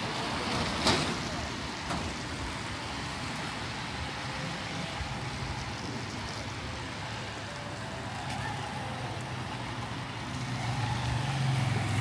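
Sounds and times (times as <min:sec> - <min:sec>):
rain: 0:00.0 - 0:12.0
traffic hiss on wet street: 0:00.0 - 0:12.0
vehicle engine hum: 0:00.0 - 0:12.0.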